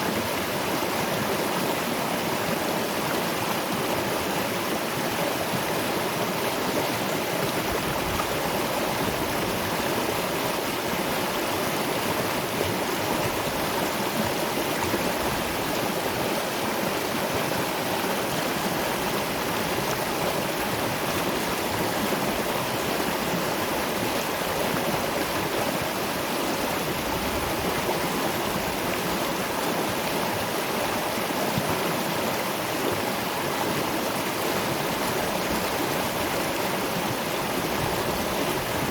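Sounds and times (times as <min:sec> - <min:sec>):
waterfall and river rushing: 0:00.0 - 0:38.9.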